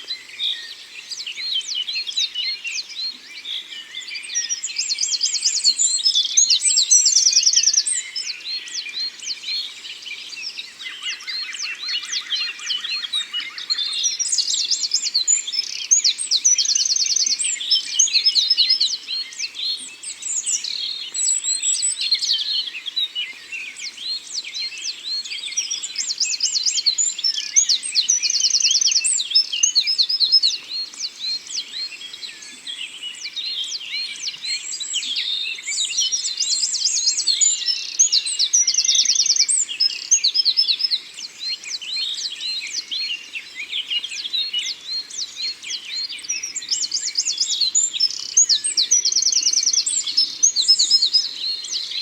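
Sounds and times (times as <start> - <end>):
songbirds chorus: 0.0 - 52.0.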